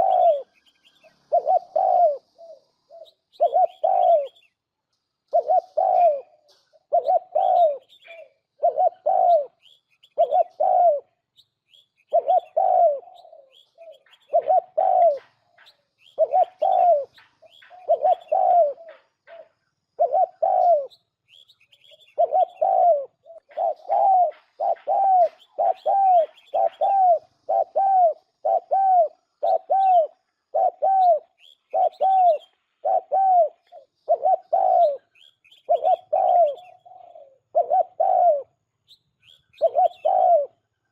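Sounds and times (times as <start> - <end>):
dove cooing: 0.0 - 4.6, 5.3 - 11.3, 12.1 - 38.6, 39.2 - 40.7
small birds chirping: 0.0 - 40.9.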